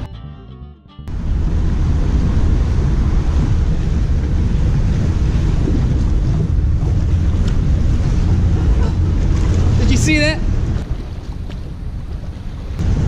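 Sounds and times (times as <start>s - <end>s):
water washing against boat: 1.1s - 13.0s
wind buffeting microphone: 1.1s - 13.0s.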